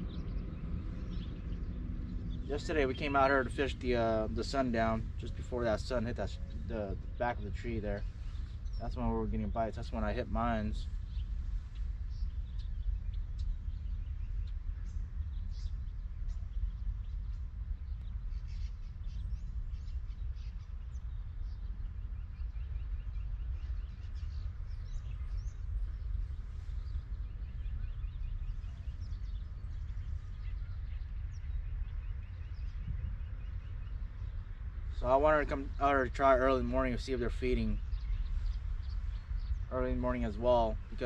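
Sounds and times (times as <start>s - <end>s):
songbirds chirping and trilling: 0.0s - 41.0s
steady low rumble: 0.0s - 41.0s.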